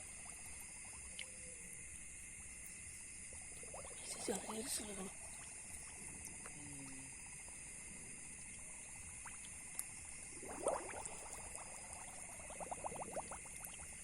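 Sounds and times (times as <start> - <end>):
water dripping: 0.0 - 7.6, 8.4 - 14.0.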